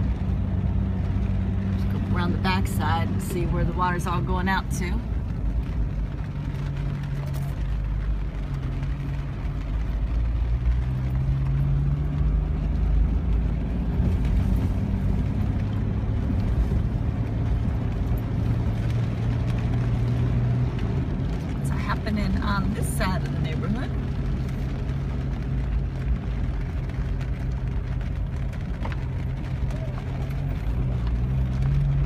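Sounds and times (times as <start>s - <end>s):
car engine hum: 0.0s - 32.0s
road noise: 0.0s - 32.0s.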